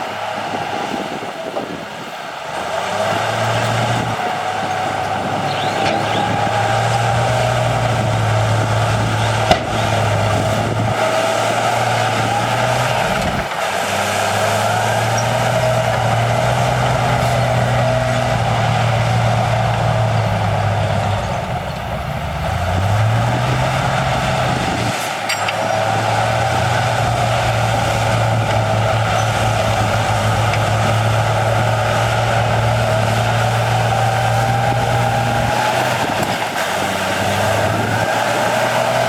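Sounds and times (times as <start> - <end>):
heavy diesel engine under load: 0.0 - 39.0.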